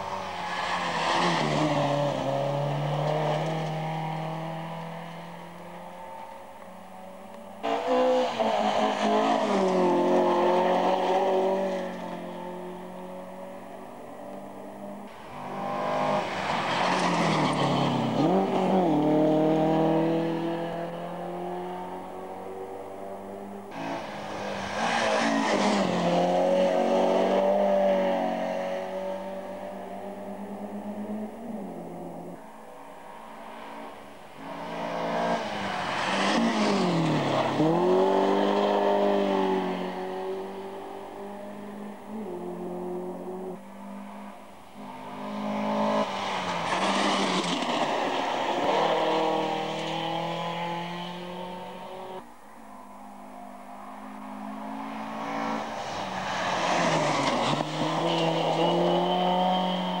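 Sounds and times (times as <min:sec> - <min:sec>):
rally car engines passing: 0:00.0 - 1:00.0.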